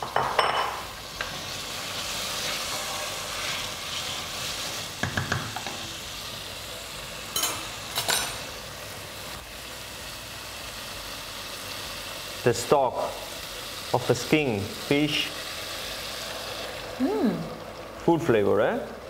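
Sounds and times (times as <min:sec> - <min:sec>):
food sizzling in a metal pot: 0:00.0 - 0:19.0.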